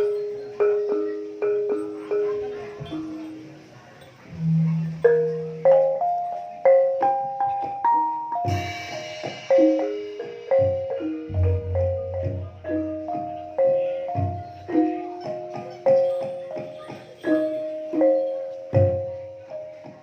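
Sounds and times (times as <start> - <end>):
gamelan mallet melody: 0.0 - 20.0.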